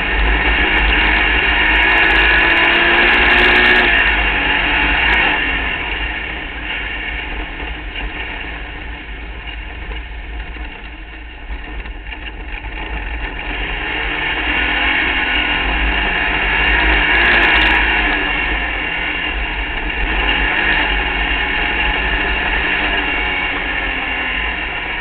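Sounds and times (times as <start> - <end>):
race car engine running hard: 0.0 - 25.0
wind and road rumble: 0.0 - 25.0.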